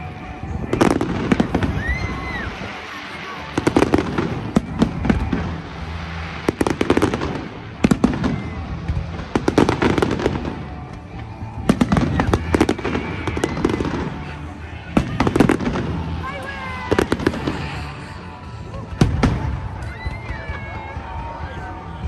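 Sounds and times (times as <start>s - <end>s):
fireworks bangs: 0.0s - 21.7s
music playing: 0.0s - 22.0s.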